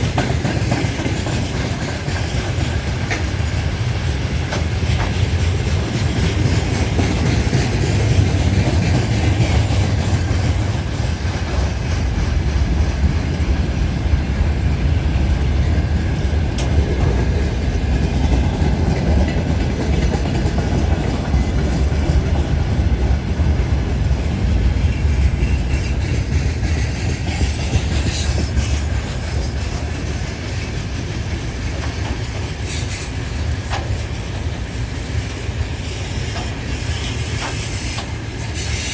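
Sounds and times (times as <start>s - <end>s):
diesel locomotive engine rumbling: 0.0s - 38.9s
wheels clacking over rail joints: 0.0s - 38.9s.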